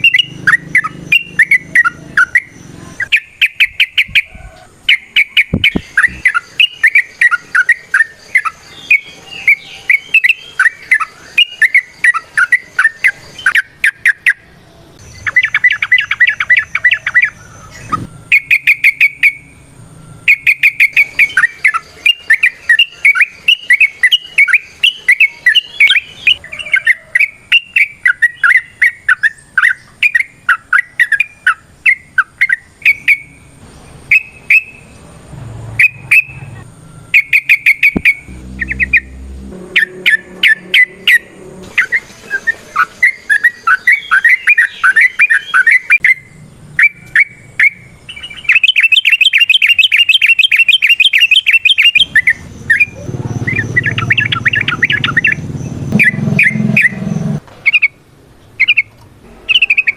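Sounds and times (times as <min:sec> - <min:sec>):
bulbul singing bubbly whistles: 0:00.0 - 0:19.6, 0:20.2 - 0:33.5, 0:34.1 - 0:34.9, 0:35.8 - 0:39.2, 0:39.8 - 0:55.4, 0:56.0 - 0:57.1, 0:58.6 - 0:58.9.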